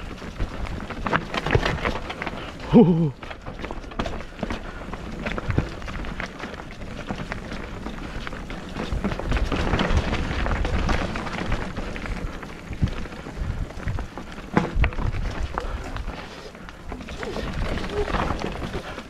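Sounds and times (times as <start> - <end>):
bike clicks and knocks: 0.0 - 19.0
bike tyres on wet dirt trail: 0.0 - 19.0.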